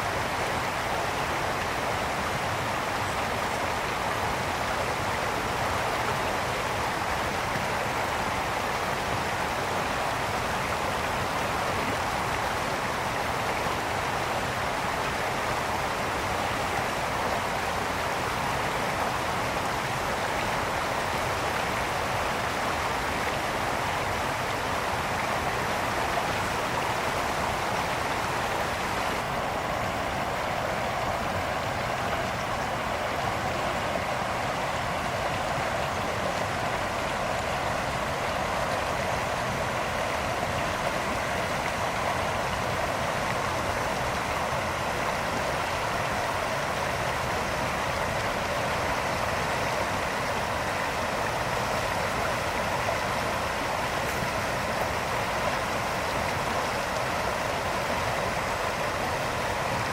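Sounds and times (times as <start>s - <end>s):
brook water rushing: 0.0s - 59.9s.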